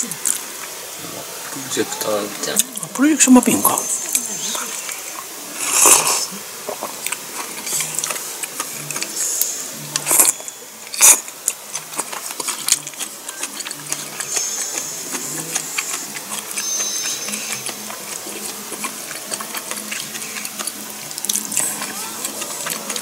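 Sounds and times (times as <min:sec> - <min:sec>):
close-up chewing with mouth clicks: 0:00.0 - 0:03.0, 0:03.6 - 0:23.0
loud soup slurp: 0:04.1 - 0:23.0.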